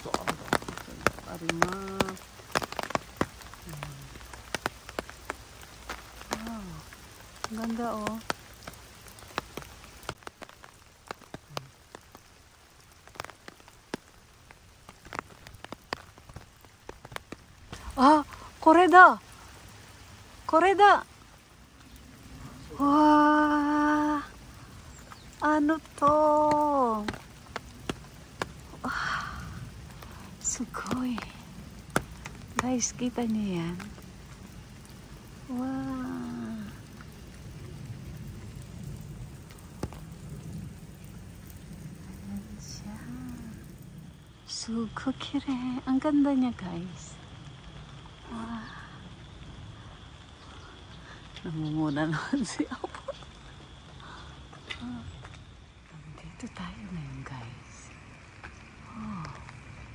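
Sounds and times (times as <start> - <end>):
light rain hiss: 0.0 - 59.9
raindrops tapping plastic umbrella: 0.0 - 59.9.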